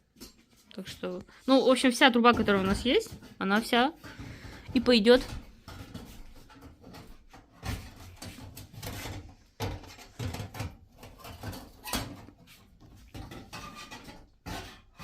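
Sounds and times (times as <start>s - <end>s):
objects knocking and clattering: 2.0s - 15.0s.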